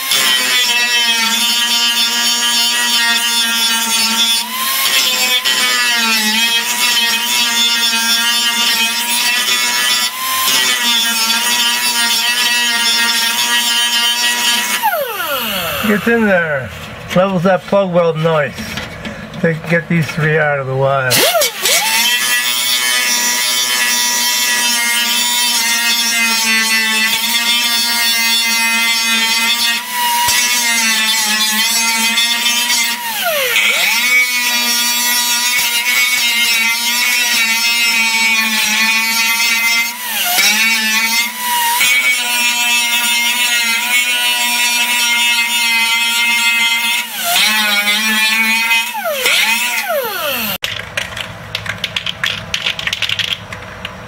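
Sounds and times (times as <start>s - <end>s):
power grinder whining: 0.0s - 19.5s, 21.1s - 54.0s.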